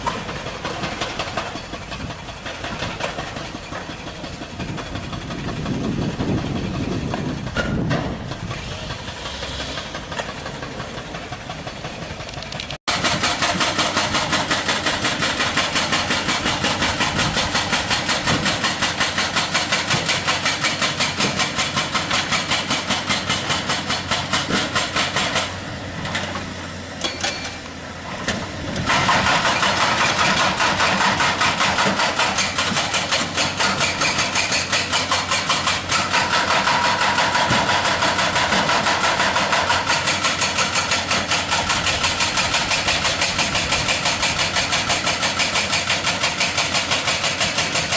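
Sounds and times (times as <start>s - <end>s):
hydraulic breaker hammering rock: 0.0s - 12.3s, 12.9s - 47.9s
diesel engine running: 0.0s - 47.9s.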